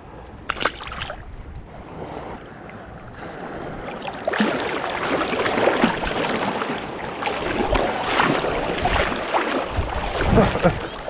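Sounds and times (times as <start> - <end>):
water sloshing and splashing: 0.4 - 1.7, 3.0 - 11.0.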